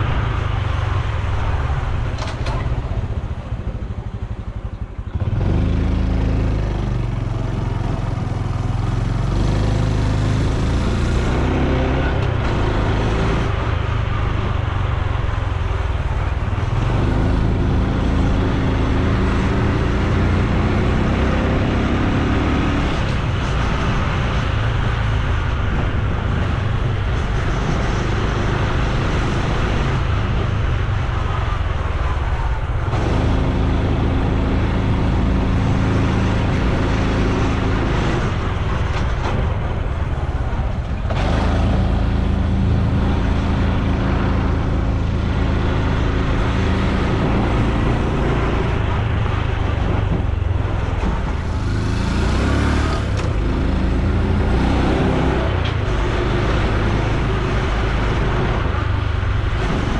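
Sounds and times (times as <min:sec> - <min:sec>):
motorcycle engine and exhaust: 0:00.0 - 0:59.9
wind and road noise: 0:00.0 - 0:59.9.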